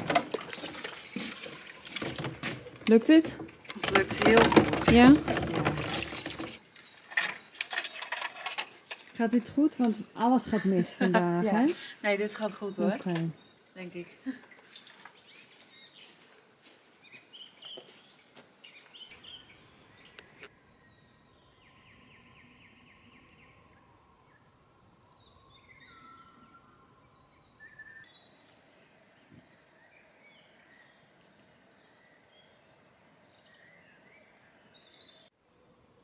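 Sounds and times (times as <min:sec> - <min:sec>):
birds chirping: 0:00.0 - 0:35.3.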